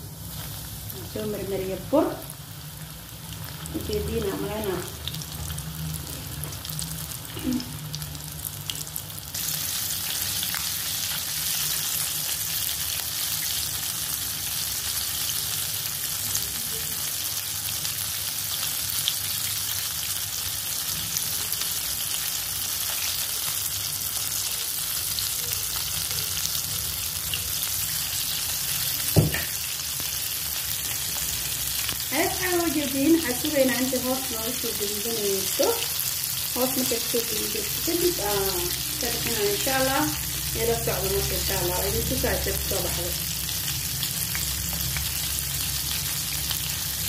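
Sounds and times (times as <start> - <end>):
deep-frying sizzle with pops: 0.0 - 47.0.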